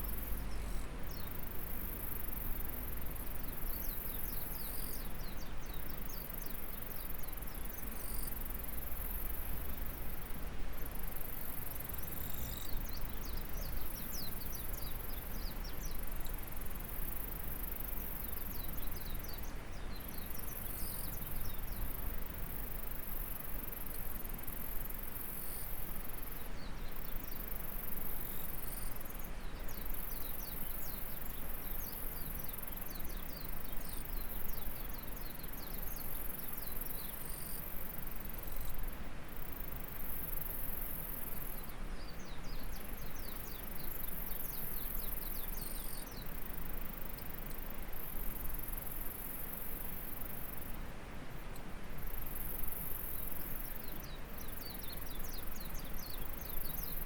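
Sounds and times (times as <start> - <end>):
insects buzzing and trilling: 0.0 - 50.8, 51.4 - 57.0.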